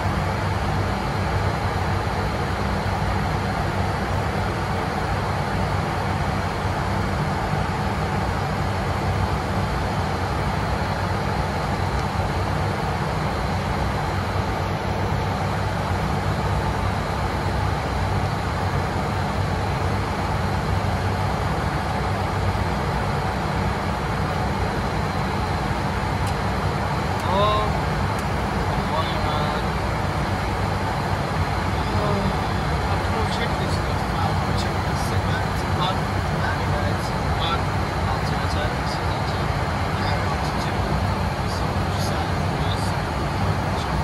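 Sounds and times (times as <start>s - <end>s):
turboprop engine drone: 0.0s - 44.0s.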